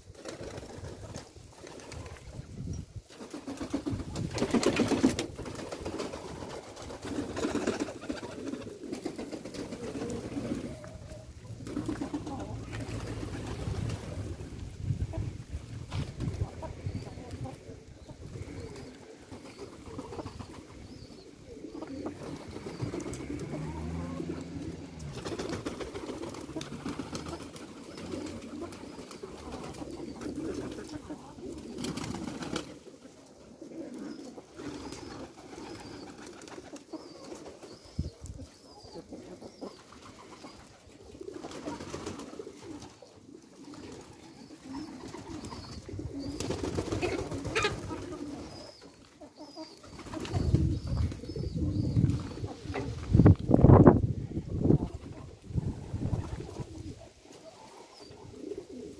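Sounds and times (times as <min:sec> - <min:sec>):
pigeons cooing: 0:00.0 - 0:58.9.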